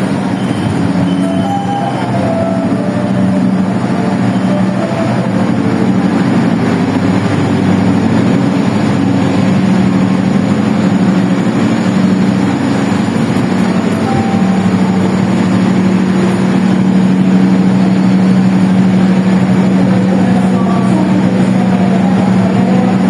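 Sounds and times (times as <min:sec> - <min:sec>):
train diesel engine drone: 0:00.0 - 0:23.0.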